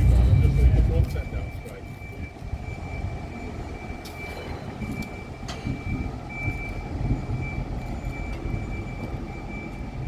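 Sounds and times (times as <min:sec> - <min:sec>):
high-pitched warning tone: 0:00.0 - 0:10.0
vehicle low rumble: 0:00.0 - 0:10.0.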